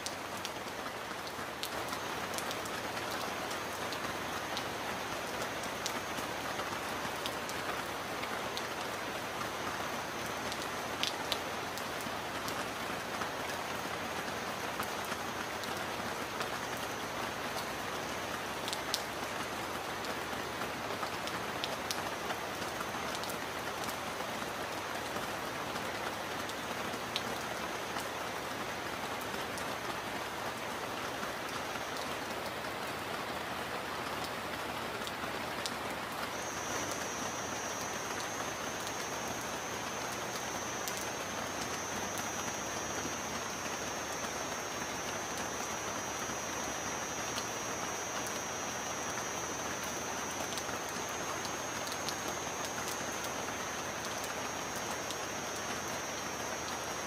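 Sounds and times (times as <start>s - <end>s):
rain drop ticks: 0.0s - 24.0s, 35.0s - 57.0s
steady rain hiss: 0.0s - 57.0s.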